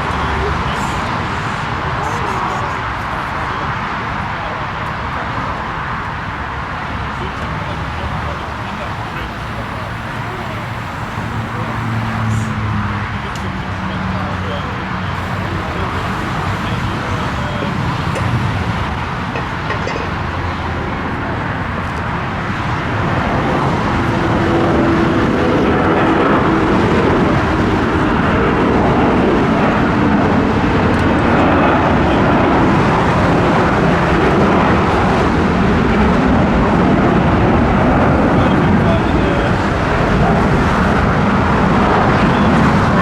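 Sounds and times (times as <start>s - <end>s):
jet engines roaring: 0.0s - 43.0s.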